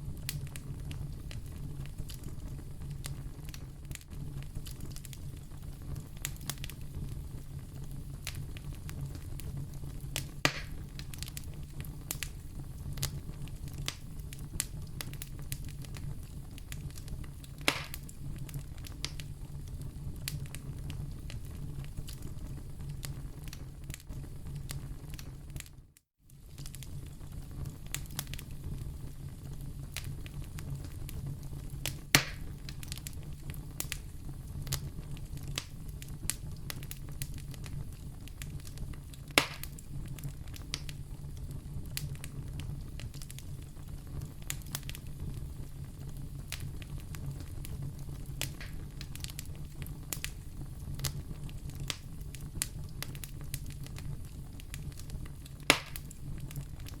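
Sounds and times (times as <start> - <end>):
loud fire pops: 0.0 - 25.7, 26.4 - 57.0
wood fire crackling: 0.0 - 57.0.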